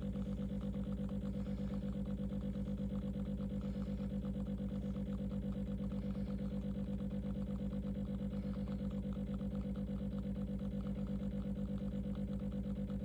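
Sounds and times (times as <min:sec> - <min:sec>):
espresso machine pump humming: 0:00.0 - 0:13.0.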